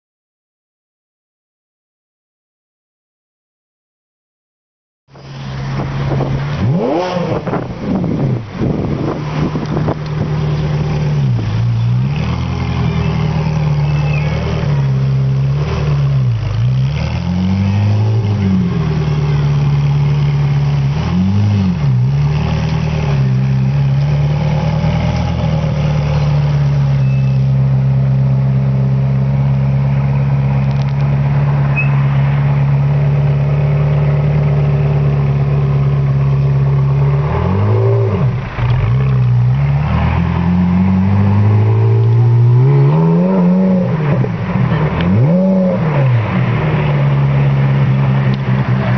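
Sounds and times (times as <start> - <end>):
vehicle engine revving: 5.2 - 48.9.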